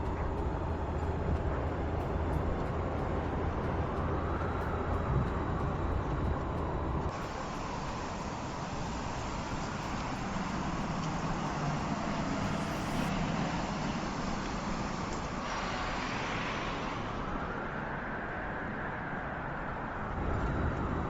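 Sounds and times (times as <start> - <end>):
tyre and road noise: 0.0 - 21.0.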